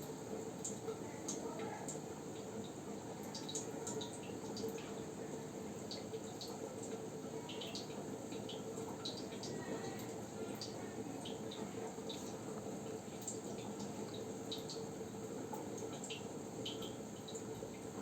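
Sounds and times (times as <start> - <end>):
water trickling and dripping: 0.0 - 18.0.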